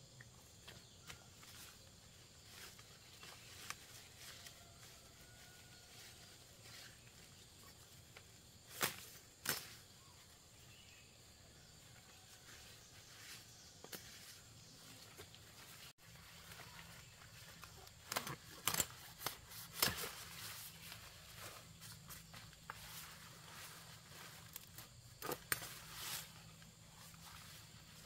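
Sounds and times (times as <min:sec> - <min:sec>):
leaves rustling: 0:00.9 - 0:11.0, 0:12.1 - 0:28.0.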